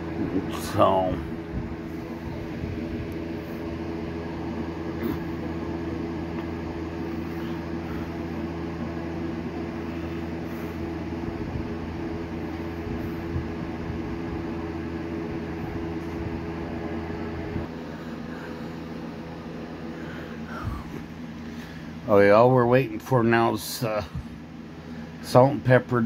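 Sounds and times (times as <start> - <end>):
household machine humming: 0.0 - 26.0.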